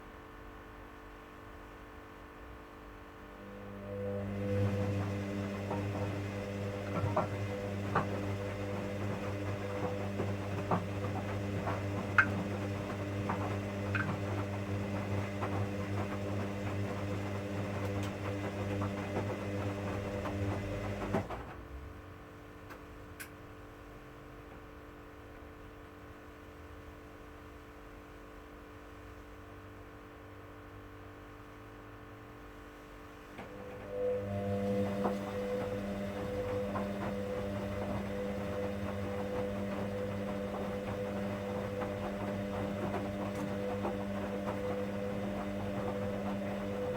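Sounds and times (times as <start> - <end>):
washing machine motor hum: 1.6 - 27.3, 28.4 - 46.9.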